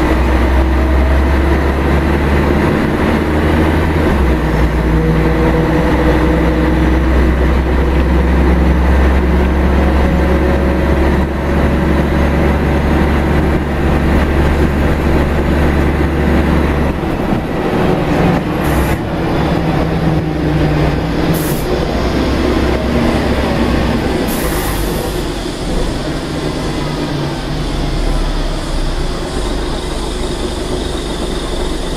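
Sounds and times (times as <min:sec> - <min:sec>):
diesel bus engine hum: 0:00.0 - 0:31.9
road rumble: 0:00.0 - 0:31.9.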